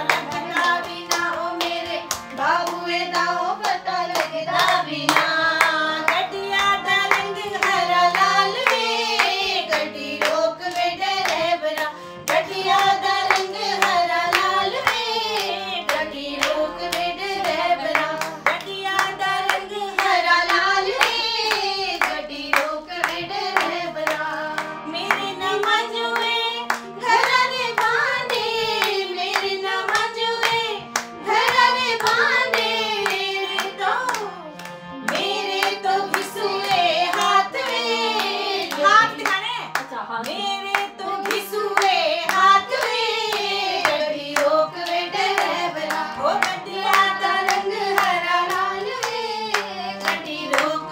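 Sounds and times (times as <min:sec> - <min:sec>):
hand clapping: 0:00.0 - 0:50.9
women singing folk song: 0:00.0 - 0:50.9.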